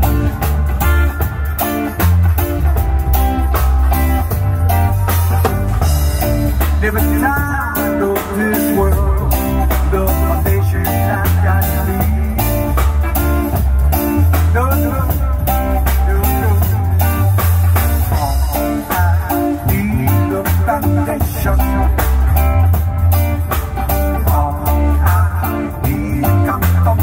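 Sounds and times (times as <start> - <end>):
drum kit beat: 0.0 - 27.0
electric bass line: 0.0 - 27.0
electric guitar: 0.0 - 27.0.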